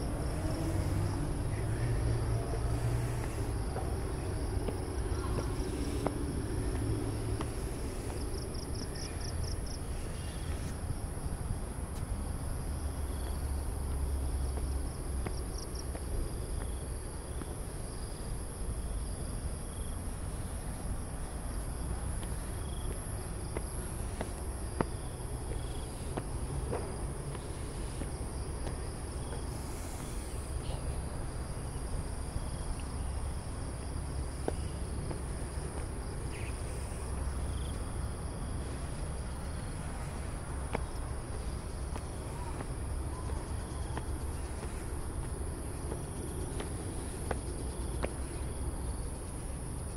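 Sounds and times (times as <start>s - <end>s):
insects chorus: 0.0s - 49.9s.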